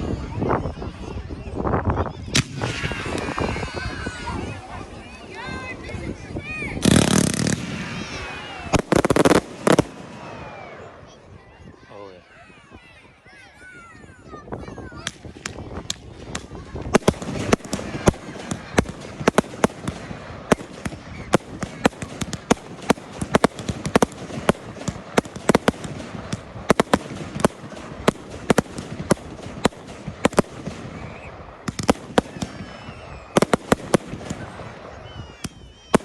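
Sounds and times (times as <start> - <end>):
fireworks bangs: 2.2 - 11.8, 14.5 - 36.0
fireworks crackle: 2.2 - 11.8, 14.5 - 36.0.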